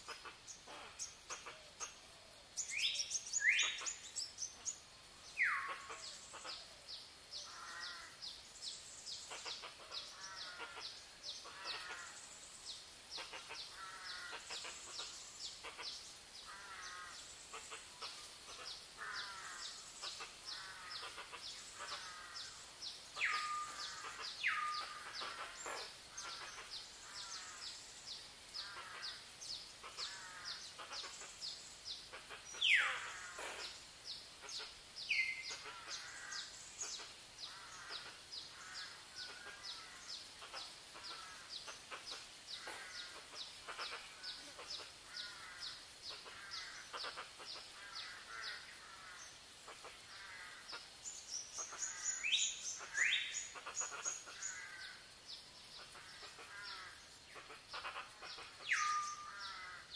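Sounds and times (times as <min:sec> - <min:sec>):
birds chirping and warbling: 0:00.0 - 0:59.9.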